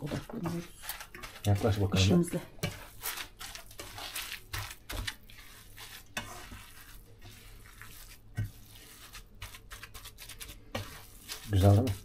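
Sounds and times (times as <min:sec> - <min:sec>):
hands kneading wet meat: 0:00.0 - 0:12.0.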